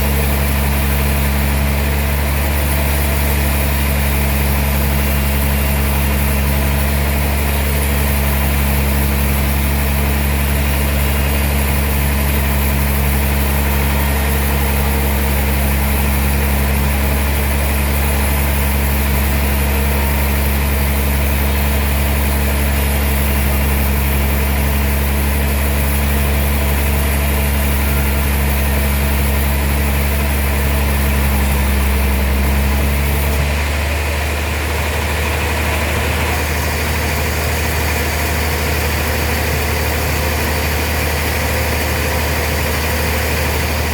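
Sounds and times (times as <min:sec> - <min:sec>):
sawmill machinery droning: 0:00.0 - 0:43.9.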